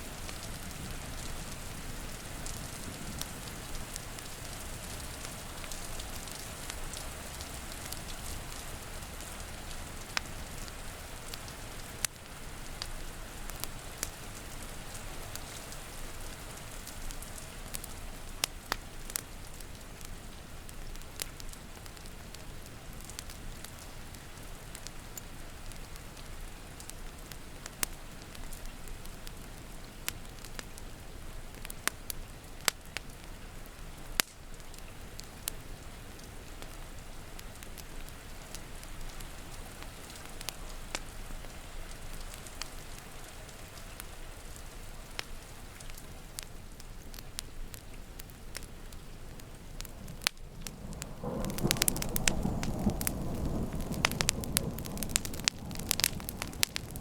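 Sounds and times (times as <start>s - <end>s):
rain hissing: 0.0s - 57.0s
wood fire crackling and popping: 0.0s - 57.0s.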